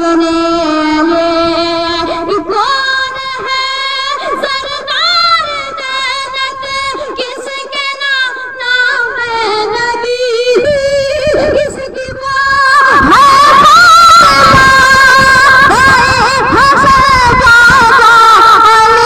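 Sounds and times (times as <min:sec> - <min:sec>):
boy singing devotional song: 0:00.0 - 0:19.0.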